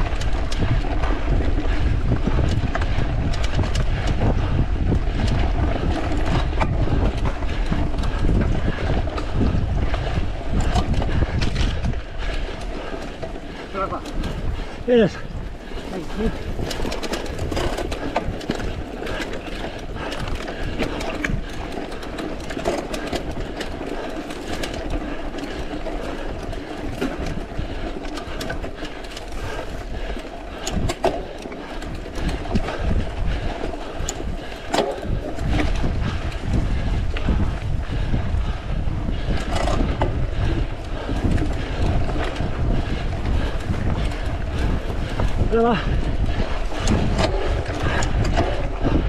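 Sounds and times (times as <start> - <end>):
bike clicking and rattling: 0.0 - 49.0
bike tyres on forest trail: 0.0 - 49.0.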